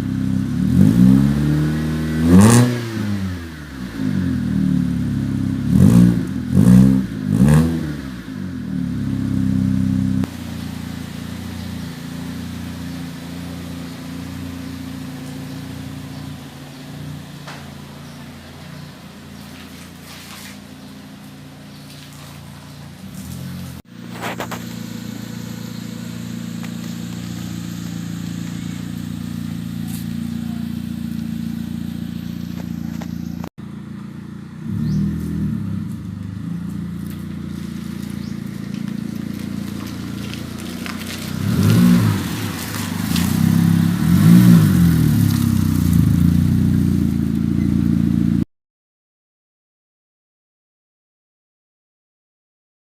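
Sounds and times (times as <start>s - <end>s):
car engine idling and revving: 0.0s - 48.5s.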